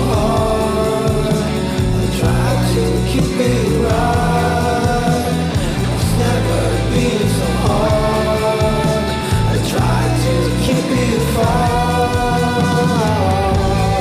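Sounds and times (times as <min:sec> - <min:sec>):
song with gliding lead melody: 0:00.0 - 0:14.0
steady bass: 0:00.0 - 0:14.0.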